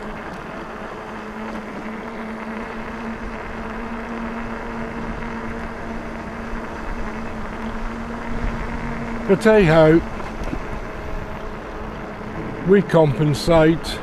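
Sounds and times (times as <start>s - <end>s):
electric bike motor hum: 0.0s - 14.0s
wind and tyre noise: 0.0s - 14.0s.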